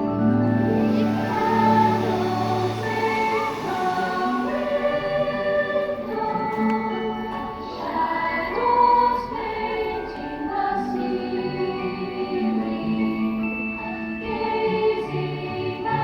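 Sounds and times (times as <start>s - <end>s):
choir singing with accompaniment: 0.0s - 16.0s.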